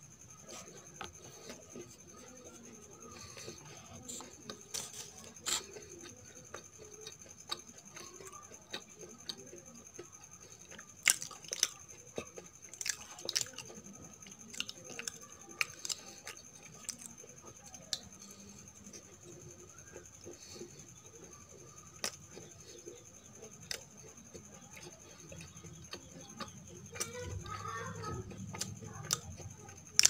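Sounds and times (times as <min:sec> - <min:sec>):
person chewing with wet mouth clicks: 0:00.4 - 0:27.2, 0:28.3 - 0:30.0.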